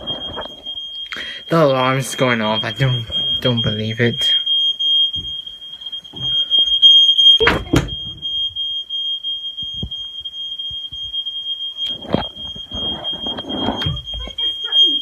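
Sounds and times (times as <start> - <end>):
smoke alarm tone: 0.0 - 15.0.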